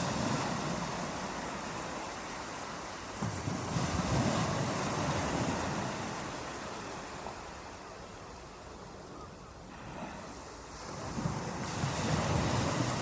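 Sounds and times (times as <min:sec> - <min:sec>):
ocean waves surging: 0:00.0 - 0:08.6, 0:09.6 - 0:13.0.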